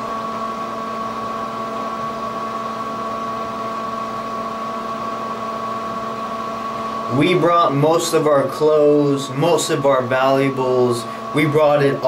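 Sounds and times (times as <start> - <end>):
high fan whine: 0.0 - 12.0
ventilation fan hum: 0.0 - 12.0.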